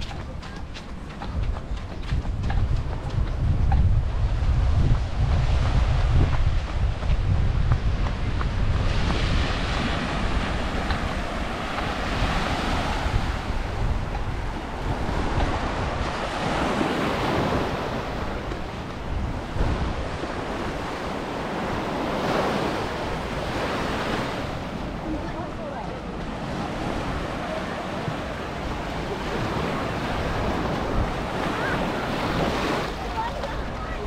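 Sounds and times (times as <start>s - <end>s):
sea waves breaking on beach: 0.0s - 34.0s
wind buffeting microphone: 0.0s - 34.0s.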